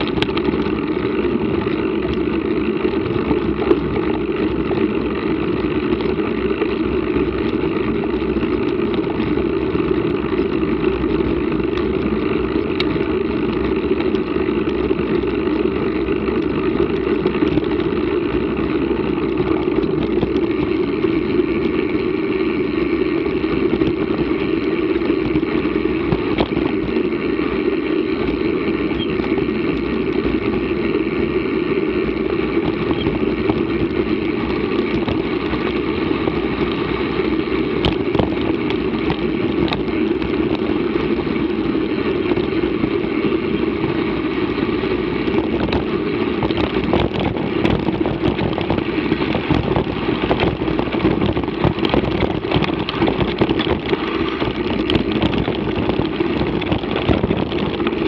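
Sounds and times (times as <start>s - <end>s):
tyres rumbling on dirt: 0.0s - 58.0s
wind on microphone: 0.0s - 58.0s.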